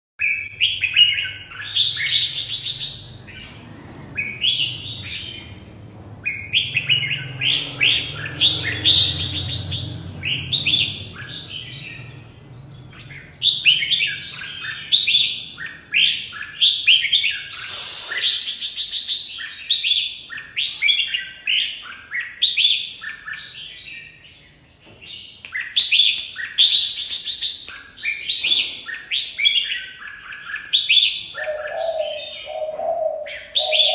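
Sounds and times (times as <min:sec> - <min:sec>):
bird singing warbled phrases: 0:00.2 - 0:33.9.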